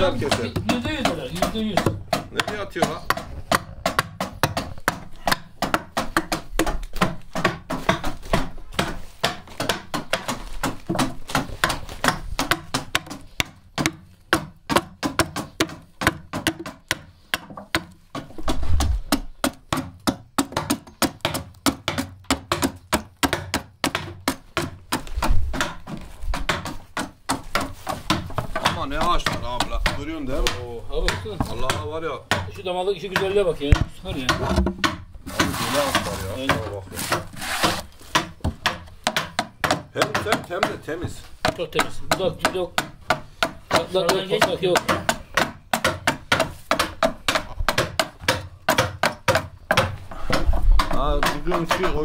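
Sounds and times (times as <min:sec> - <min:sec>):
adze chopping wood: 0:00.0 - 0:52.0
heavy thuds: 0:00.0 - 0:52.0.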